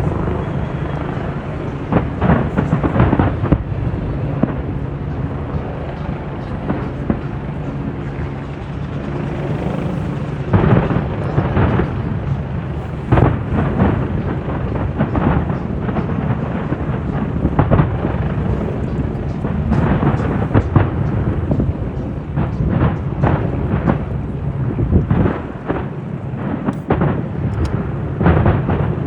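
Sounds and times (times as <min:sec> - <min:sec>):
fireworks booming and crackling: 0:00.0 - 0:29.0
low rumble: 0:00.0 - 0:29.0.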